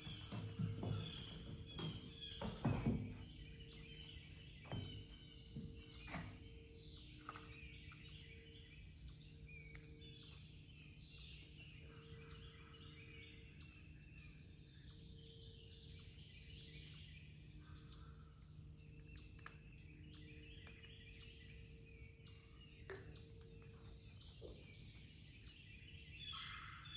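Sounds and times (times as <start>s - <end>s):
faint birdsong chirps: 0.0s - 26.9s
low steady hum: 0.0s - 26.9s.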